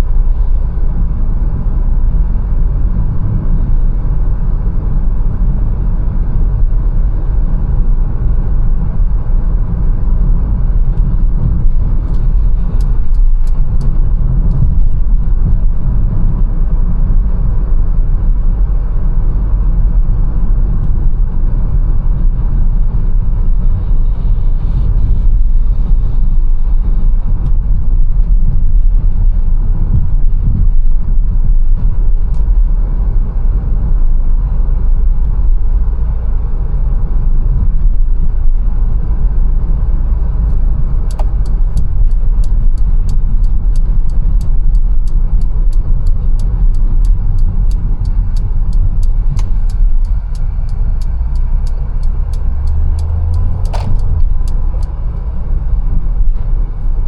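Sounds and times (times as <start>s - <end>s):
car road and engine rumble: 0.0s - 57.0s
turn signal ticking: 0.1s - 19.6s, 20.5s - 29.2s, 37.4s - 57.0s.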